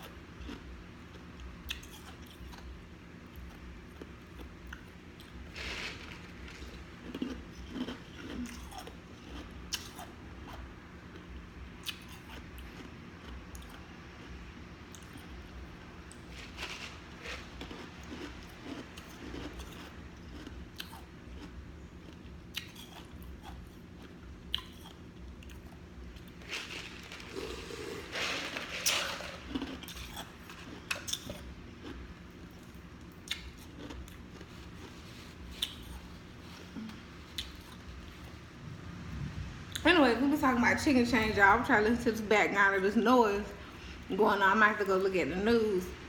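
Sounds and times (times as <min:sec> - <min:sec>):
person chewing crunchy food: 0:00.0 - 0:38.5.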